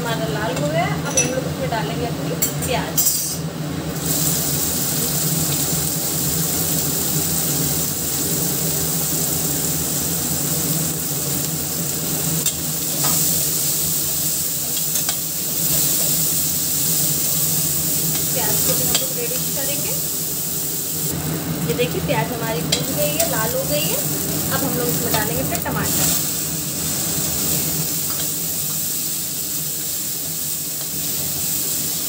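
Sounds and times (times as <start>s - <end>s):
onions sizzling in hot oil: 2.4s - 32.0s.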